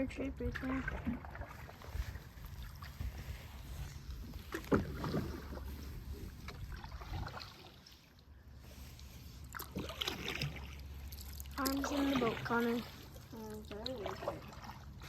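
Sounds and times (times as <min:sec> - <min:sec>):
low steady rumble: 0:00.0 - 0:15.0
paddle splashes and knocks: 0:00.5 - 0:08.2, 0:09.5 - 0:15.0.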